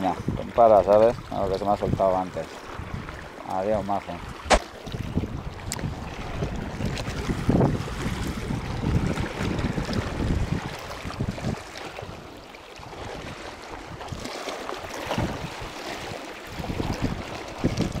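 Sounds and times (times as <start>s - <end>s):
sea water washing on rocks: 0.0s - 18.0s
wind buffeting microphone: 0.0s - 18.0s.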